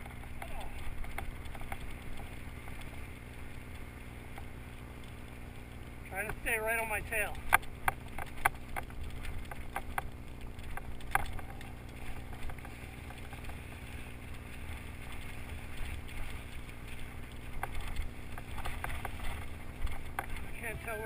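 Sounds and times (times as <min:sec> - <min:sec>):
bike rattling over bumps: 0:00.0 - 0:21.0
wind and tyres rumbling: 0:00.0 - 0:21.0.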